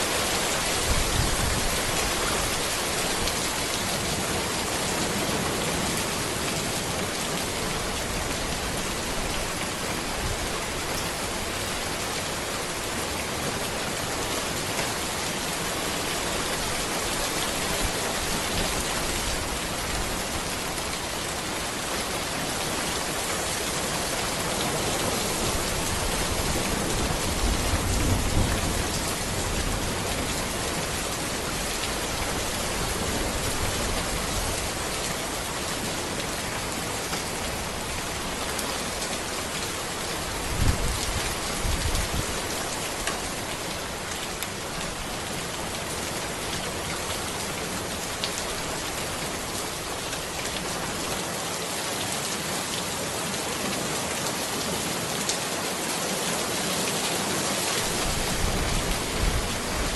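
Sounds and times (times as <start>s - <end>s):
rain pattering on road and trees: 0.0s - 59.9s.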